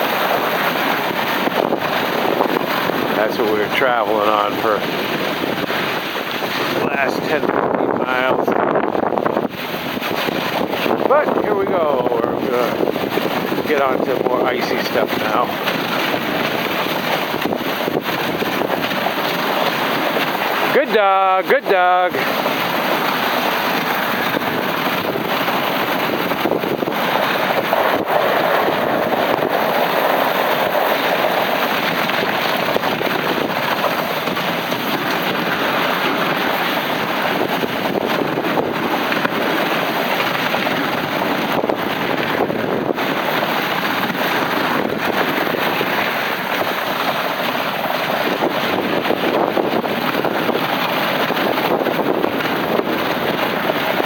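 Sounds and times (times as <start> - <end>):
sled runners scraping over ice: 0.0 - 54.0
wind on microphone: 0.0 - 54.0.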